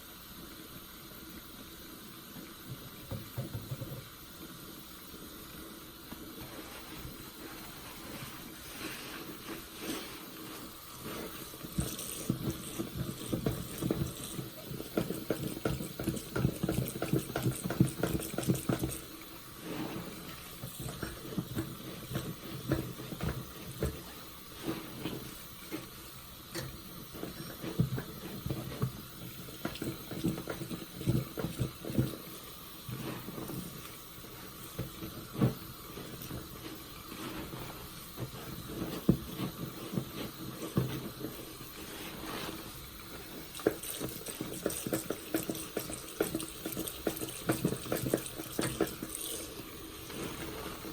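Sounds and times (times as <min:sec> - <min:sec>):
soapy sponge squelching: 0:06.4 - 0:26.0, 0:27.1 - 0:50.9.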